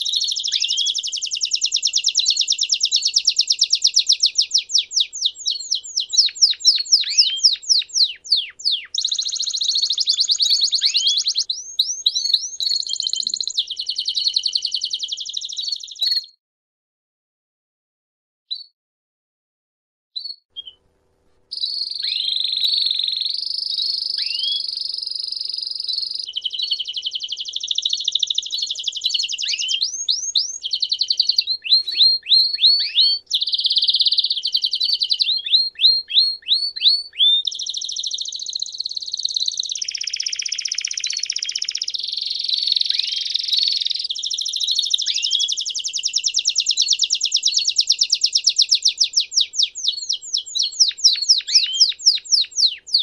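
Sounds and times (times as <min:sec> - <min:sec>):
canary singing trills: 0:00.0 - 0:16.4, 0:20.2 - 0:20.9, 0:21.5 - 0:53.0.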